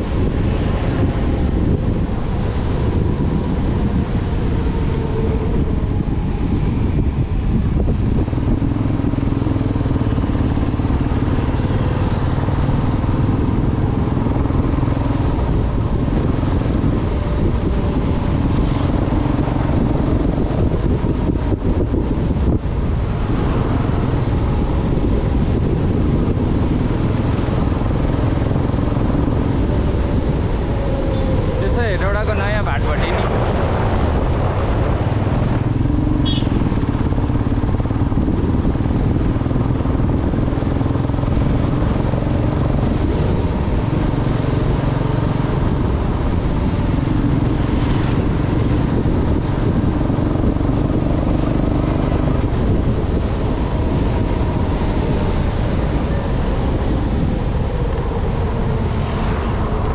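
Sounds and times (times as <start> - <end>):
motorcycle engine running: 0.0 - 32.0, 33.3 - 59.9
wind and road noise: 0.0 - 59.9.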